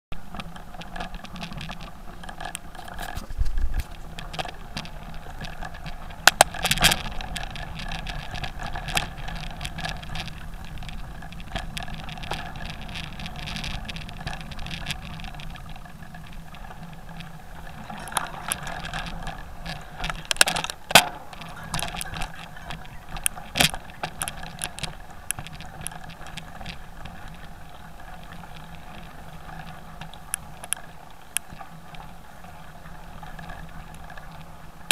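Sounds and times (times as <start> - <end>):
bike tyres and drivetrain rumble: 0.1 - 34.9
bike rattling over bumps: 0.2 - 34.9.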